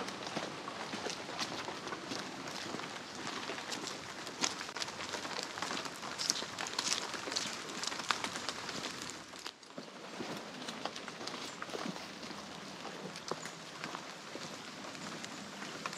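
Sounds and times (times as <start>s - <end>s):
footsteps crunching through dry leaves: 0.0s - 15.9s.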